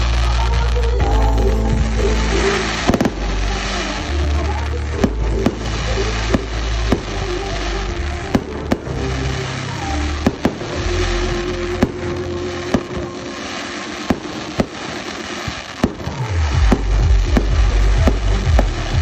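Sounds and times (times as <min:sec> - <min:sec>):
fireworks crackling: 0:00.0 - 0:19.0
music with deep bass: 0:00.0 - 0:19.0.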